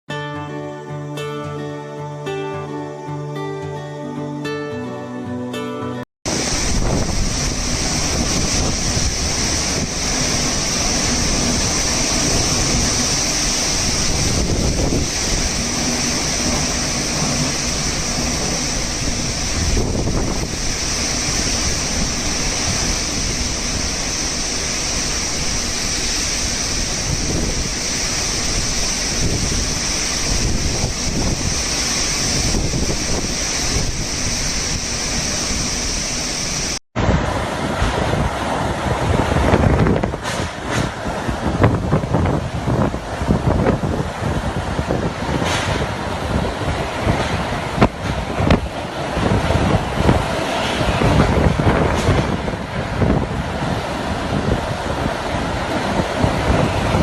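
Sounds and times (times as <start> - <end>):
heavy rain: 6.3 - 57.0
strong wind: 6.3 - 57.0
wind buffeting microphone: 6.3 - 57.0.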